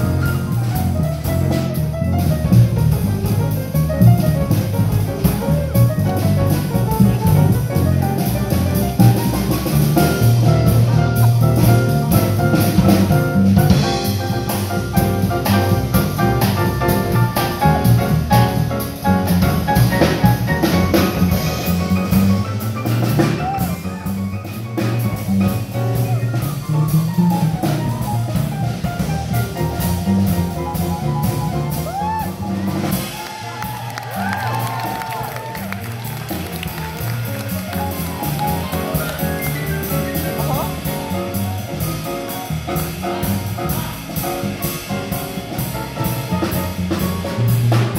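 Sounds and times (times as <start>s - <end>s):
drums with cymbals: 0.0s - 47.9s
piano: 0.0s - 47.9s
walking double bass: 0.0s - 47.9s.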